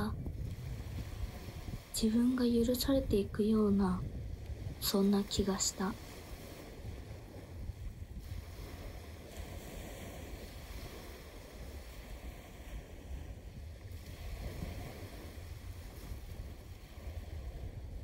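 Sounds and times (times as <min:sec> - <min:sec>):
small waves washing onto shore: 0:00.0 - 0:18.0
wind rumbling on microphone: 0:00.0 - 0:18.0.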